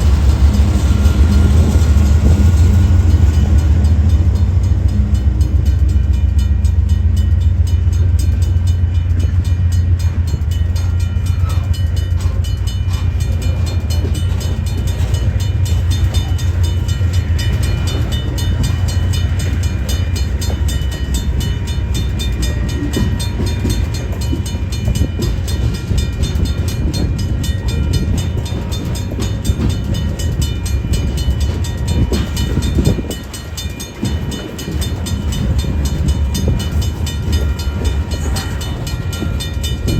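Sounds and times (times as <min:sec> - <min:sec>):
locomotive engine rumble: 0:00.0 - 0:39.9
train wheels on rails: 0:00.0 - 0:39.9.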